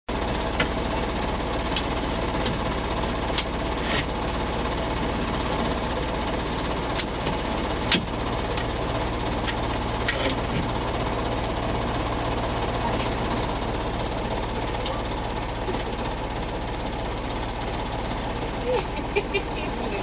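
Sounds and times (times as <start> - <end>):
engine running: 0.1 - 20.0.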